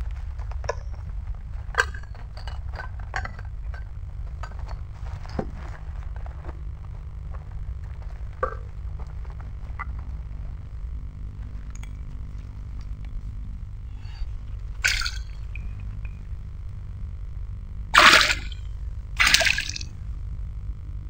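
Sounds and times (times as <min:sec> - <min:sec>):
low microphone rumble: 0:00.0 - 0:19.2.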